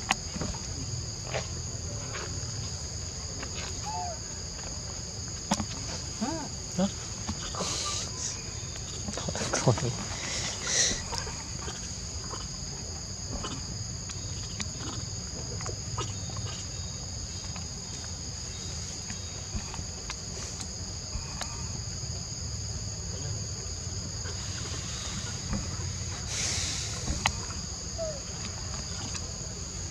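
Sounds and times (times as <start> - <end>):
high-pitched insect chorus: 0.0 - 29.9.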